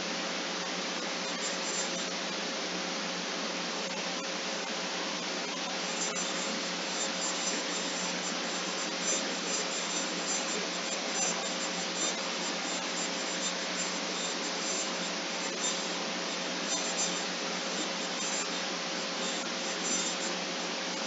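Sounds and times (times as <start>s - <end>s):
faint hum tone: 0.0s - 21.0s
steady hiss: 0.0s - 21.0s.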